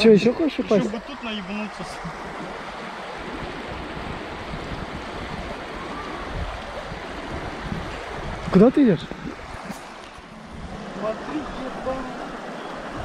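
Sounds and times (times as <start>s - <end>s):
river water running over stones: 0.0s - 13.0s.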